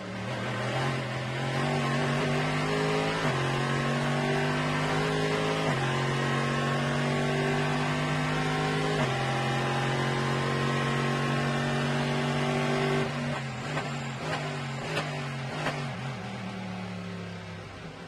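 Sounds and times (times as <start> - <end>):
race car engine at full throttle: 0.0 - 18.0.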